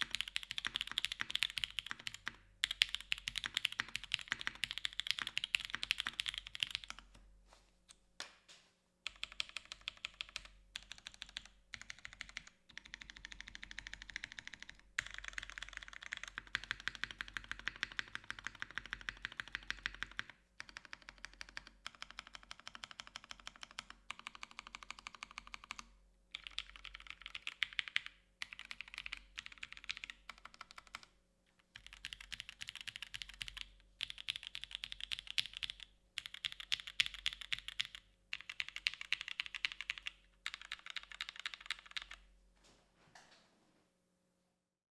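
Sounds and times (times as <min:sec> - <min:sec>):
mechanical keyboard typing: 0:00.0 - 0:07.2, 0:09.0 - 0:31.1, 0:31.7 - 0:42.2.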